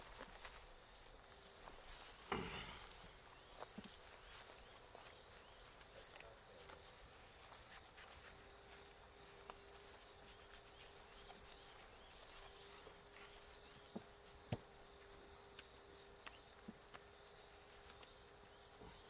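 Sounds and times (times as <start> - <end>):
faint insect chirps: 0.0 - 19.0
faint steady hum: 0.0 - 19.0.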